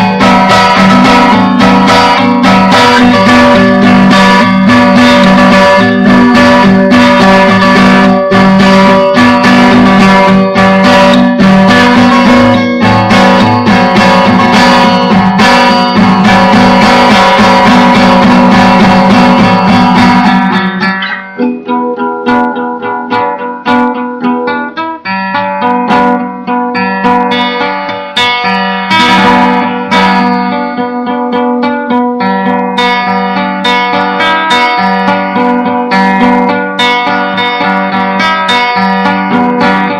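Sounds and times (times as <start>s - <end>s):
guitar strumming and picking: 0.0s - 39.9s.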